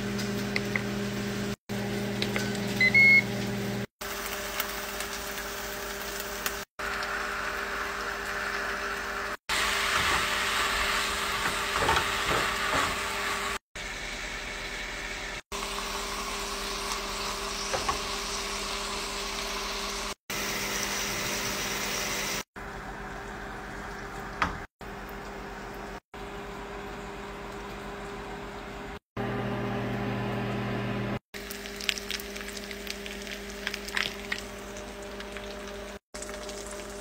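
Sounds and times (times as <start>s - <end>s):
food sizzling in a frying pan: 0.0s - 24.7s, 31.4s - 37.0s.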